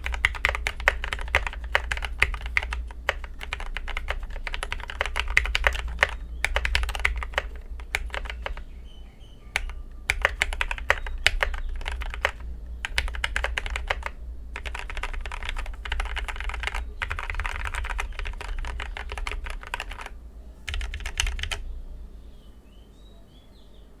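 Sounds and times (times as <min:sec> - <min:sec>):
mechanical keyboard typing: 0:00.0 - 0:08.7, 0:09.5 - 0:21.6.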